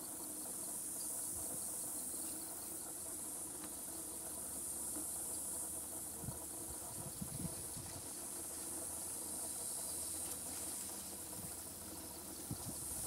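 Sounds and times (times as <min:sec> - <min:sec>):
distant locomotive engine hum: 0:00.0 - 0:13.0
insect chorus: 0:00.0 - 0:13.0.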